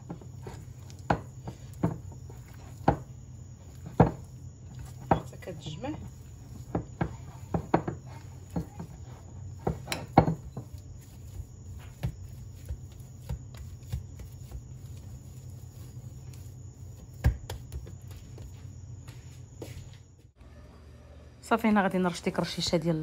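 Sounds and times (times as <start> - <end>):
hands kneading dough: 0.0 - 20.2.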